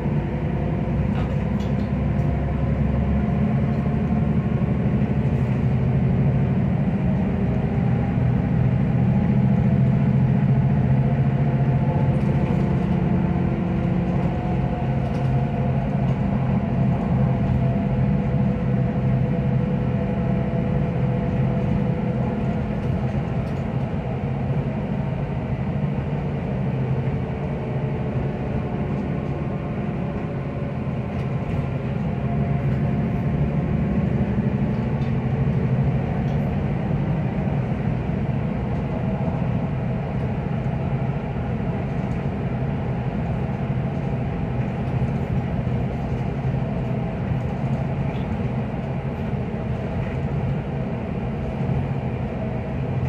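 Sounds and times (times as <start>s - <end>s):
bus engine drone: 0.0s - 53.0s
road rumble: 0.0s - 53.0s.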